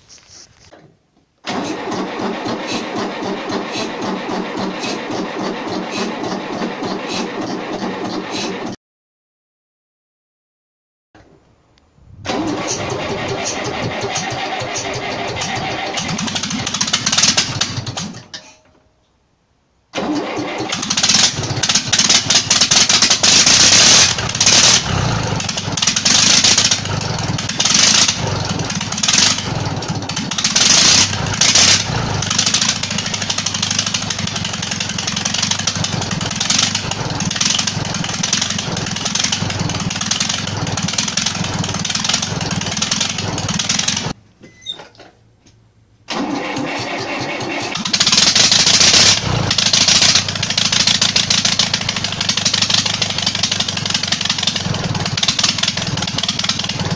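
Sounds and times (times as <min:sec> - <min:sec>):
diesel engine running roughly: 0:01.5 - 0:08.8, 0:12.3 - 0:18.2, 0:20.0 - 0:44.2, 0:46.1 - 0:56.9.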